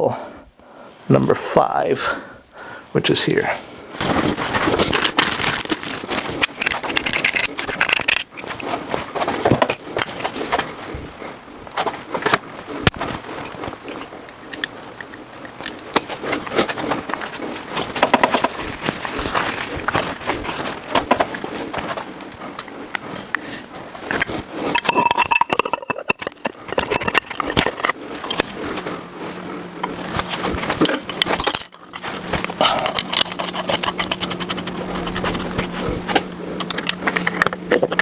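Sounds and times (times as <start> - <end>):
metal tools clinking and tapping: 4.8 - 10.7, 11.8 - 28.9, 29.6 - 38.0.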